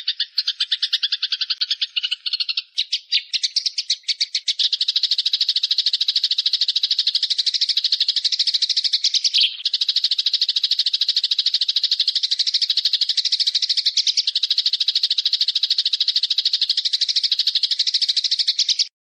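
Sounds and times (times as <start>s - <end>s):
bird rapid chattering call: 0.0s - 19.0s.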